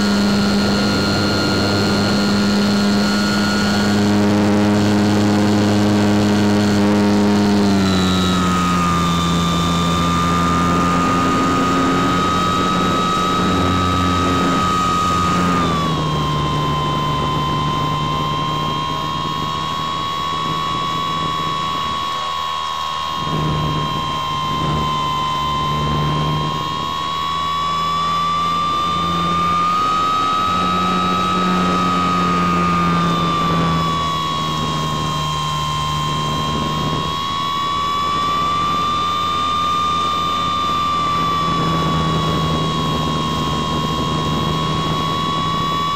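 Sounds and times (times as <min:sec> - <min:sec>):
wind rush: 0:00.0 - 0:22.3, 0:23.0 - 0:45.9
model aircraft motor whine: 0:00.0 - 0:45.9.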